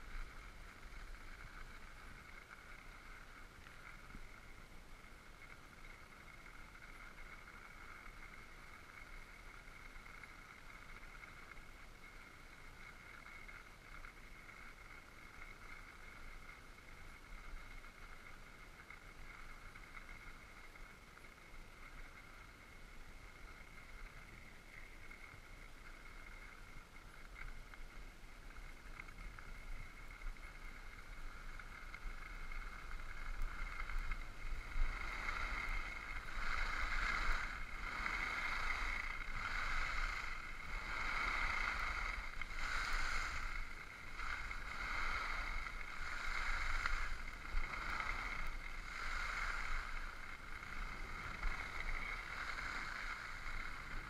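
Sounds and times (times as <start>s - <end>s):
skis scraping over snow: 0.0s - 54.0s.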